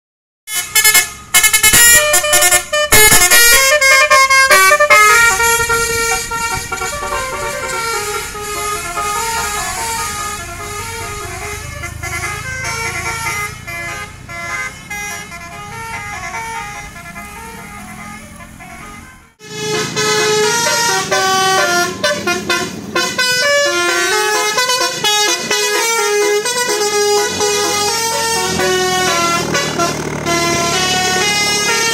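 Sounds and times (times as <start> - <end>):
bus musical air horns: 0.5 - 31.9.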